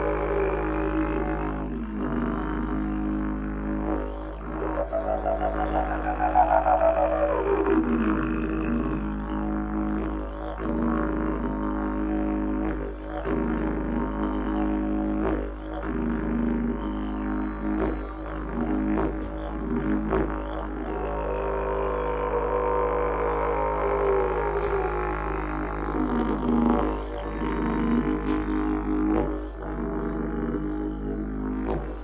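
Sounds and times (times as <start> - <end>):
didgeridoo drone: 0.0 - 32.0.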